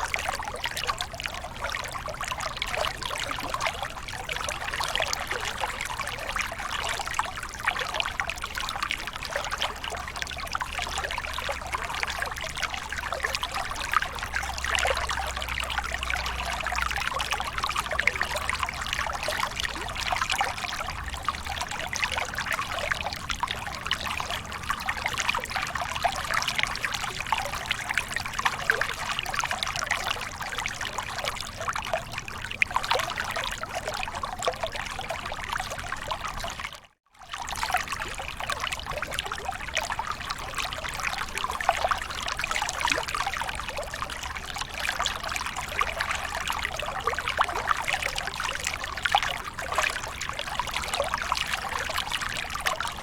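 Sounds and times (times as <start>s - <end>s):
small waterfall pouring and splashing: 0.0s - 53.0s.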